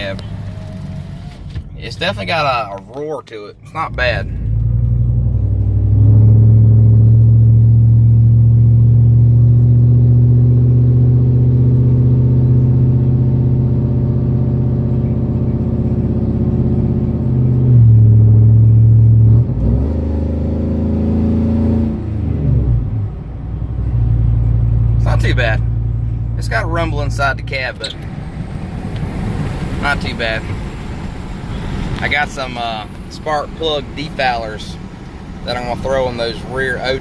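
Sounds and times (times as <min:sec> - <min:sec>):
truck engine rumbling: 0:00.0 - 0:37.0.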